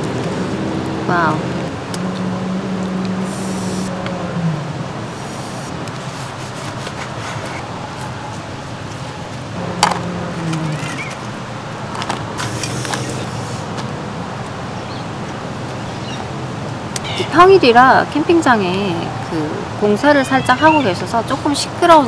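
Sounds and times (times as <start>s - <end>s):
construction machinery rumble: 0.0s - 22.0s.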